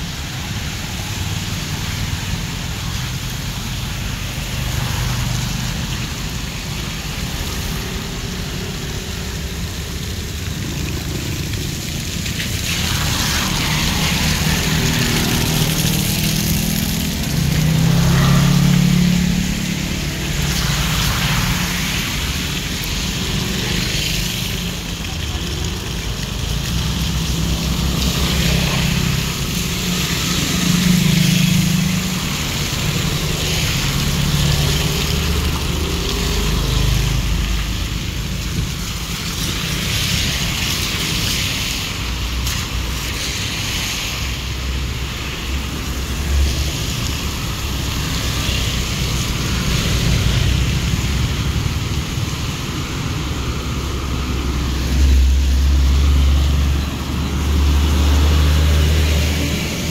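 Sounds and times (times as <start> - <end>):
engines humming: 0.0 - 59.9
tyres hissing through water: 0.0 - 59.9.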